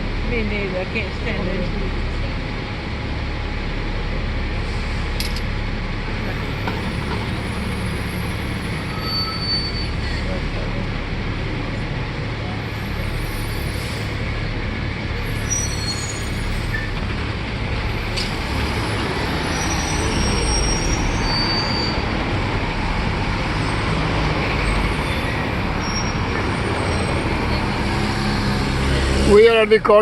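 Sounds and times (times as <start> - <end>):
bus engine rumble: 0.0 - 30.0
road noise: 0.0 - 30.0.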